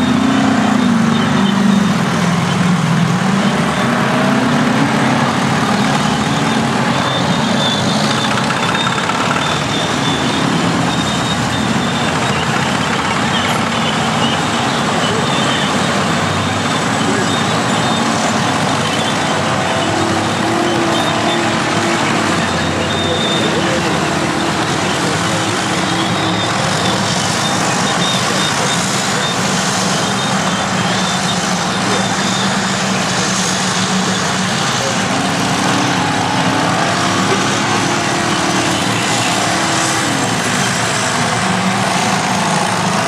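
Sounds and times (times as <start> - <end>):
heavy diesel machines running: 0.0 - 43.0.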